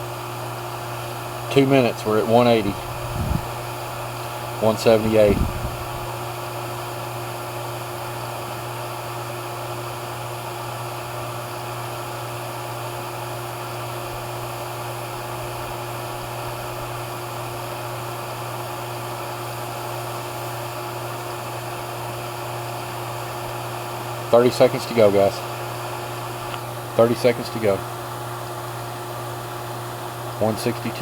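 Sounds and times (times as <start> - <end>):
vacuum pump motor hum: 0.0 - 31.0.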